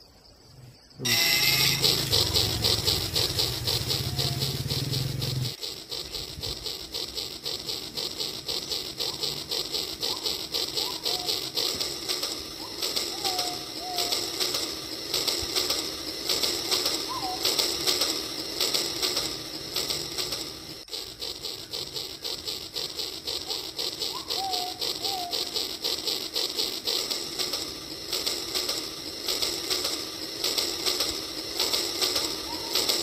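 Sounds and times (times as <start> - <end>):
bird calls: 0.9 - 27.6, 28.2 - 33.0
model train clattering on track: 1.0 - 33.0.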